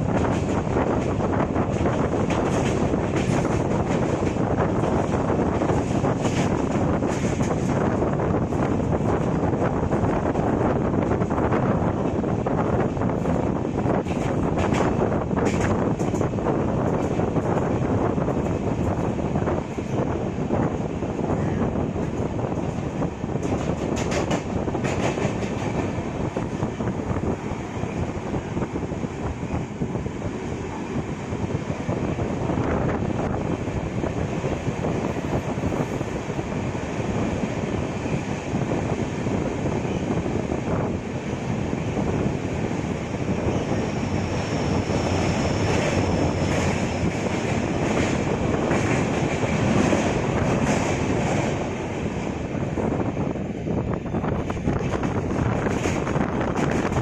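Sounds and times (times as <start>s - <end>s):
train wheels rumbling on rail: 0.0s - 57.0s
wind on microphone: 0.0s - 57.0s.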